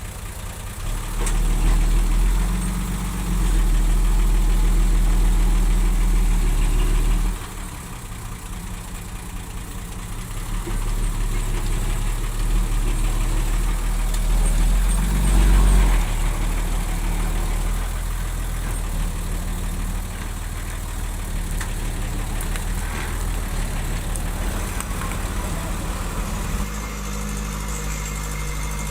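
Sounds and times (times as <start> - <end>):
heavy machinery diesel engine: 0.0 - 28.9.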